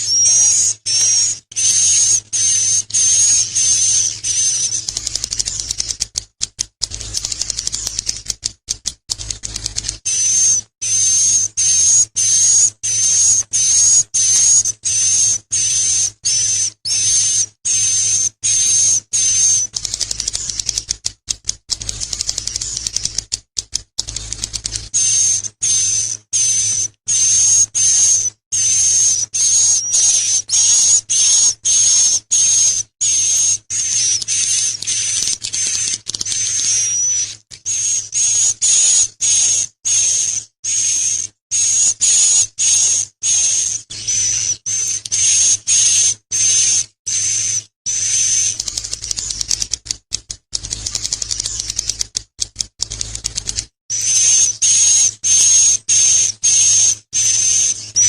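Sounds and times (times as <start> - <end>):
bird chirping buzzy calls: 0.0 - 6.0, 9.4 - 20.8, 24.1 - 49.6, 53.9 - 58.0.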